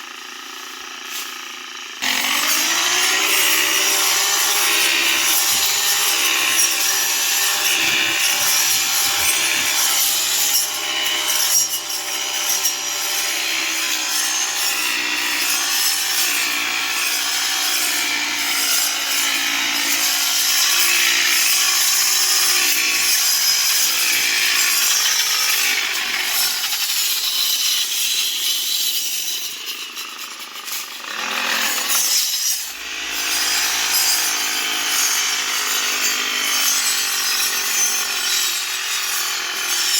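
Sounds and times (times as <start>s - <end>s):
grinding grass cutting noise: 0.0s - 39.9s.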